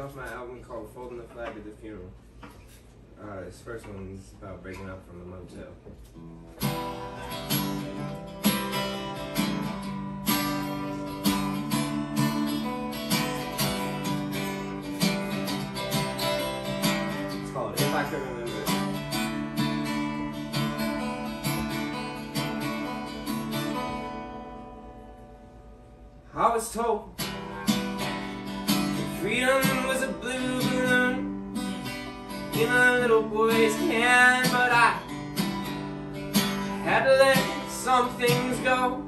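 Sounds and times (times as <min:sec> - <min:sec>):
acoustic guitar strumming chords: 0:06.2 - 0:39.0.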